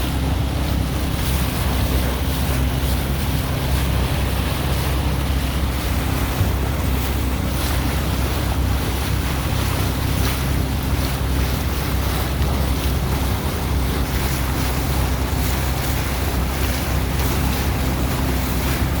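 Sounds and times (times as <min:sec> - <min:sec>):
vehicle engine hum: 0:00.0 - 0:19.0
wind buffeting microphone: 0:00.0 - 0:19.0.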